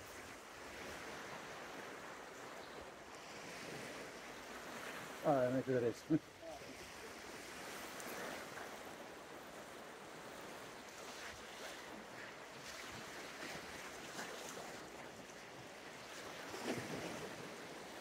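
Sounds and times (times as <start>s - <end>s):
waves washing onto shingle: 3.1s - 18.0s.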